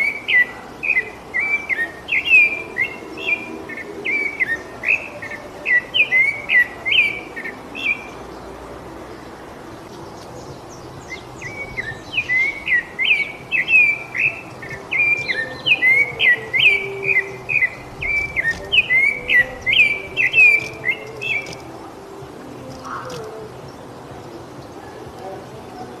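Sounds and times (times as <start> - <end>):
thrush singing whistled notes: 0.0 - 26.0.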